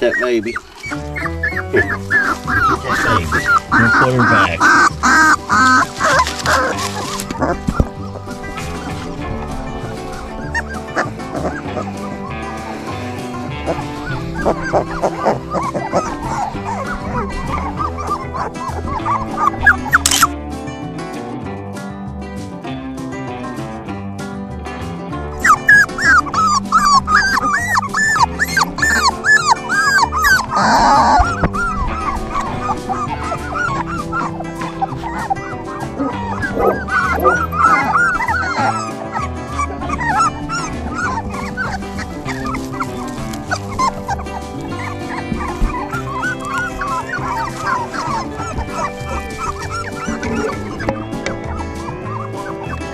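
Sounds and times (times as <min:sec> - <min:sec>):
puppies whimpering and yipping: 0:00.0 - 0:20.4, 0:25.3 - 0:52.9
background music: 0:00.0 - 0:52.9.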